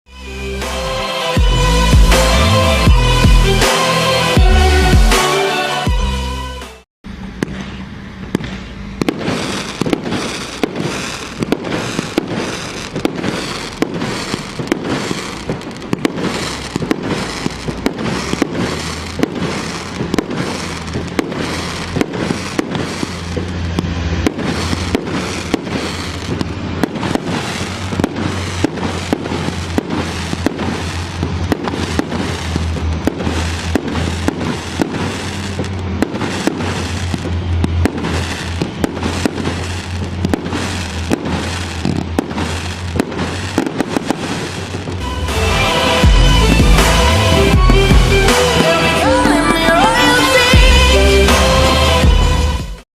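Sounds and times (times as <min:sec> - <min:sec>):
fireworks banging and crackling: 0:00.6 - 0:05.8, 0:07.1 - 0:52.8.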